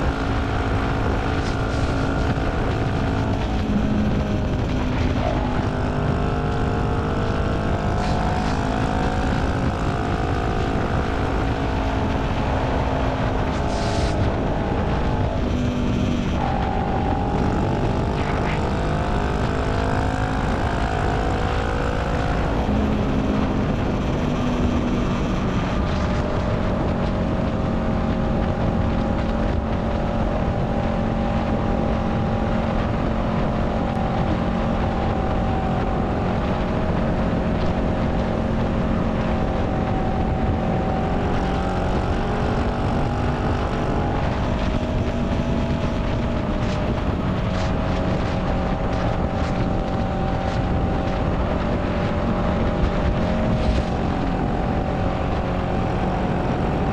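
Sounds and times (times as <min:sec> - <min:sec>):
motorcycle engine cruising: 0:00.0 - 0:56.9.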